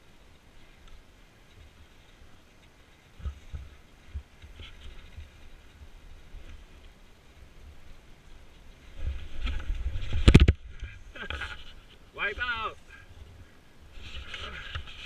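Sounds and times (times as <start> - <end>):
wind on camera: 0.0 - 15.0.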